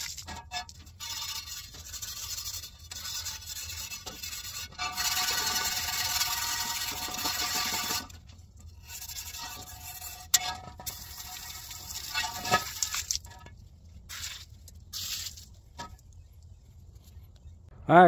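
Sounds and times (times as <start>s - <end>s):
hose water splashing on metal lid: 0.0s - 13.4s, 14.1s - 15.4s.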